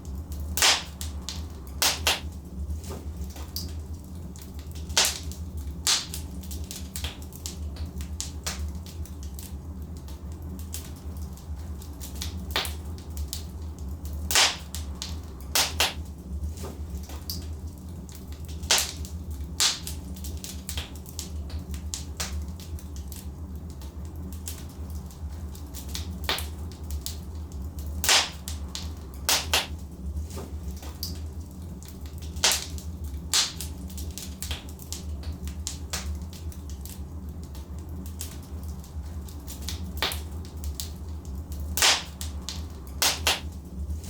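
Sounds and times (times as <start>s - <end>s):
fire crackling and popping: 0.0s - 44.0s
low fire rumble: 0.0s - 44.0s.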